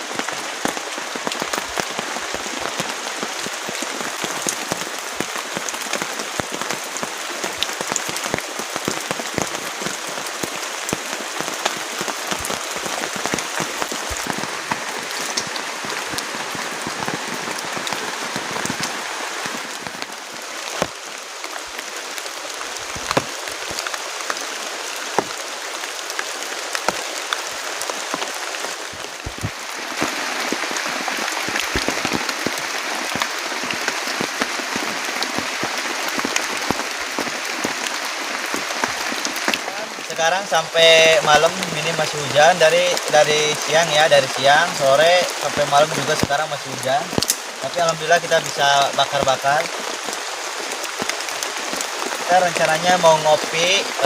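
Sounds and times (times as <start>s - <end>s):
heavy rain on a tent flysheet: 0.0s - 54.0s.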